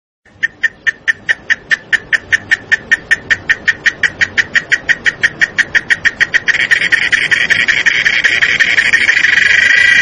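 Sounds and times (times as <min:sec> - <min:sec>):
insect chirping: 0:00.3 - 0:10.0.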